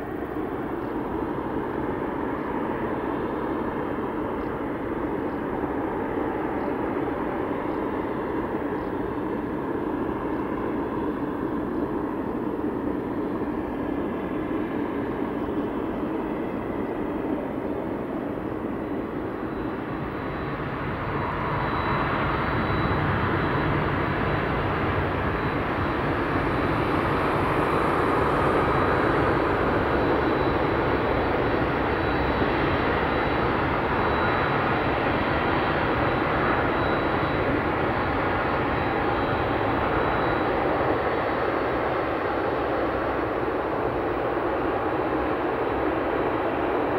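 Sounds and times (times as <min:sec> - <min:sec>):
jet engine rumble: 0:00.0 - 0:46.9.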